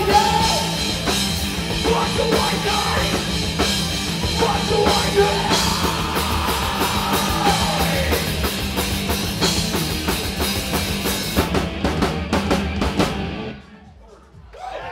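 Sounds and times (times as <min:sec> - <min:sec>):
electric guitars: 0:00.0 - 0:13.6
bass guitar: 0:00.0 - 0:13.8
drum kit: 0:00.0 - 0:14.9.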